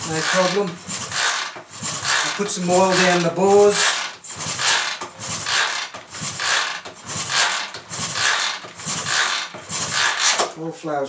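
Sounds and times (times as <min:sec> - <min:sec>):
motorcycle engine turning over on kickstart: 0:00.0 - 0:10.6.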